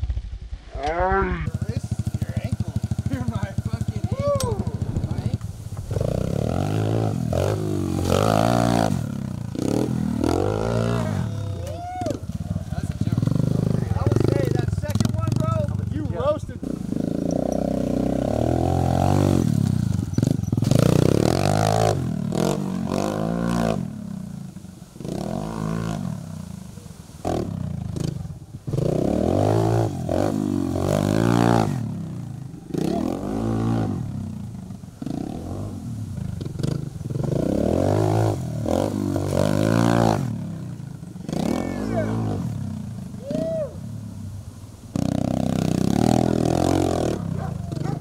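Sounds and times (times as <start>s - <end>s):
dirt bike engine revving: 0.8s - 48.0s.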